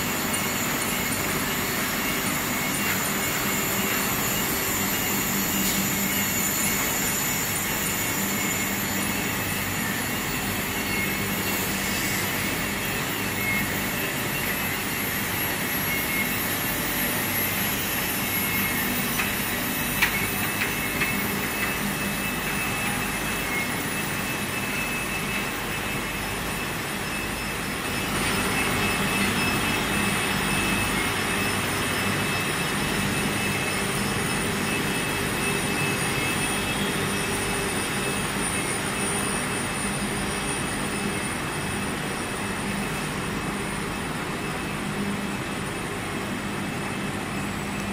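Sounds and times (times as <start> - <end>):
high machine whine: 0.0 - 47.9.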